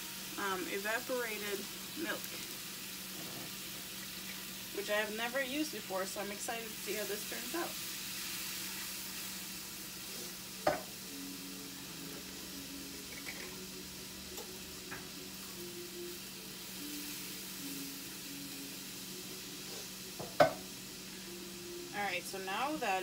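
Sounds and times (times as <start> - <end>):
liquid sizzling in a frying pan: 0.0 - 23.0.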